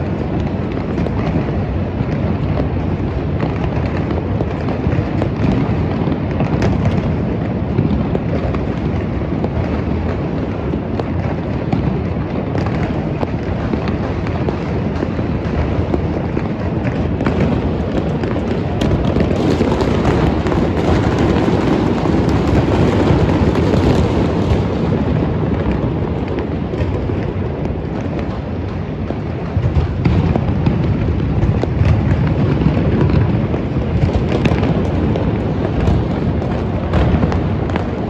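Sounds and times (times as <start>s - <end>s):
fireworks and firecrackers banging: 0.0s - 38.0s.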